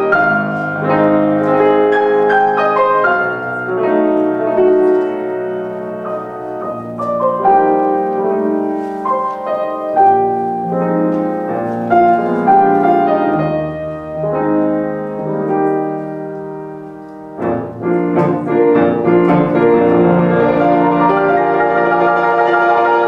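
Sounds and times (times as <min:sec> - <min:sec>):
solo grand piano: 0:00.0 - 0:23.0.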